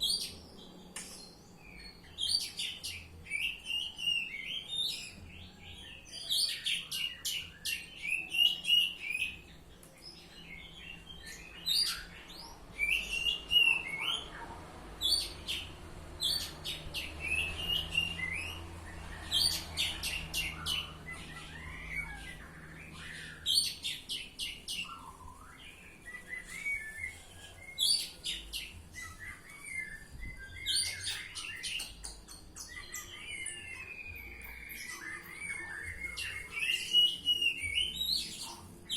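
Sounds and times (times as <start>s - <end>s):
songbird singing with whistles: 0.0s - 14.4s, 15.0s - 38.9s.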